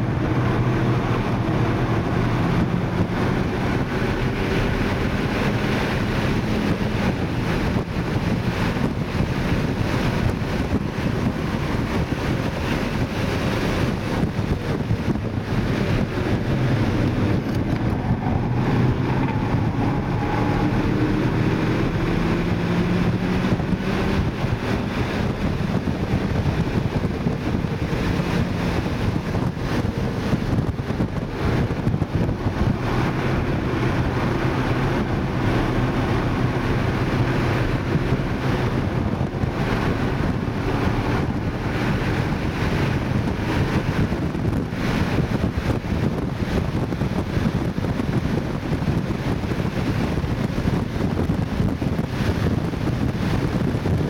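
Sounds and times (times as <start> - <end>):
car engine at speed: 0.0 - 54.0
wind and road noise: 0.0 - 54.0.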